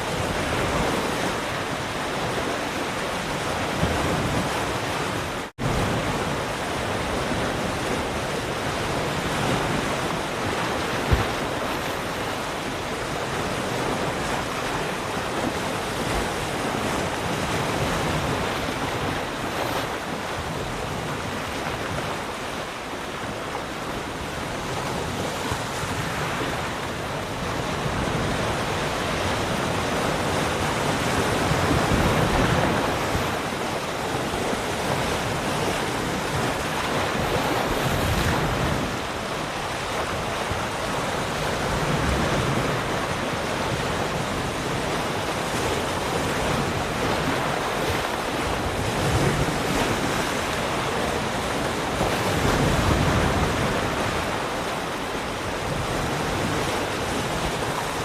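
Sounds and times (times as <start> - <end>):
ocean waves breaking: 0.0 - 58.0
wind noise on microphone: 0.0 - 58.0.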